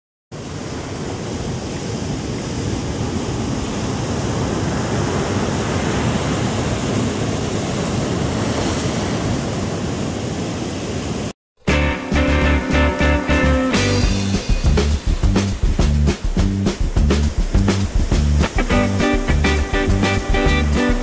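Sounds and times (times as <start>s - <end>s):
ocean surf breaking: 0.3s - 21.0s.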